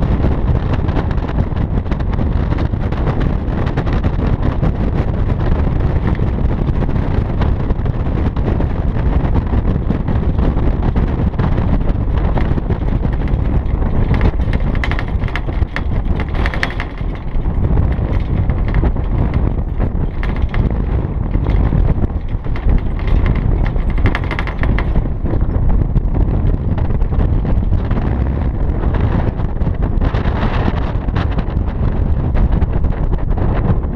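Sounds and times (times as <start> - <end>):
car running noise: 0.0 - 33.9
wind buffeting microphone: 0.0 - 33.9.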